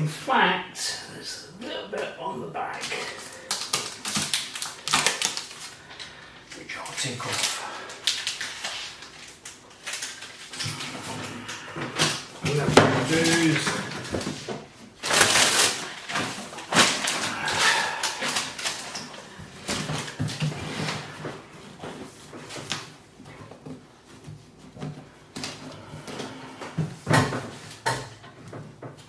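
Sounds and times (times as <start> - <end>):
plastic film rustling and crinkling: 2.7 - 29.0.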